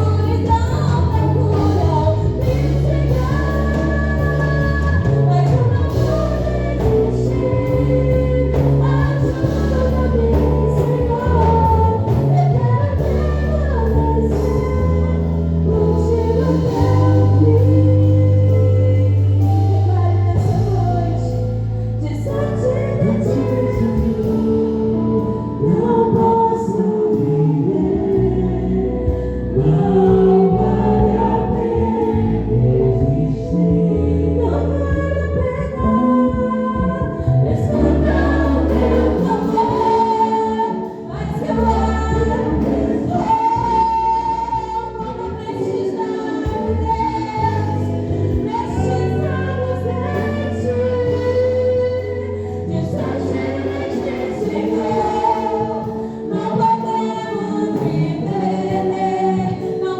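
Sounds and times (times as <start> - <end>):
voices singing together: 0.0 - 19.6, 22.1 - 59.9
instrumental accompaniment: 0.0 - 59.9
moving bass line: 0.0 - 59.9.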